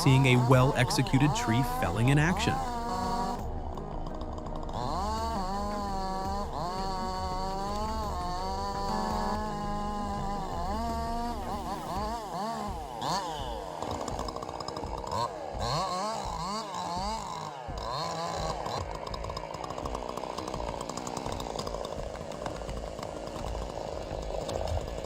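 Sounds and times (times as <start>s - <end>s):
chainsaw engine revving: 0.0s - 25.0s.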